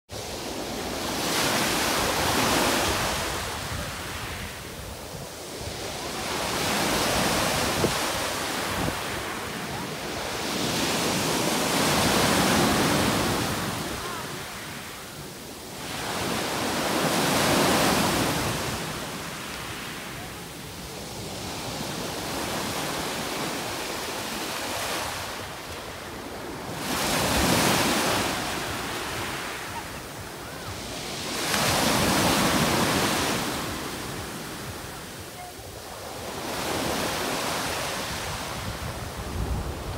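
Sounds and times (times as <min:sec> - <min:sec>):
waves washing onto a beach: 0:00.1 - 0:39.9.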